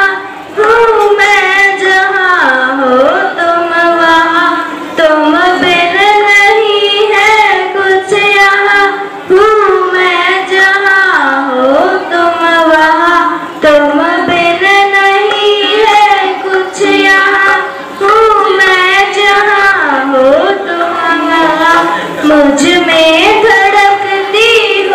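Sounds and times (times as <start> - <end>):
girls singing together: 0.0 - 24.9.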